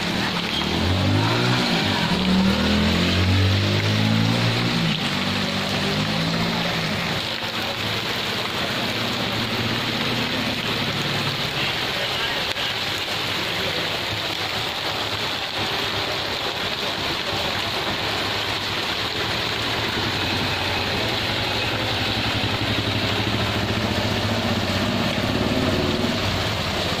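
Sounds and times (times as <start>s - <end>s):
rain on a wet street: 0.0s - 27.0s
vehicle engine running: 0.0s - 27.0s.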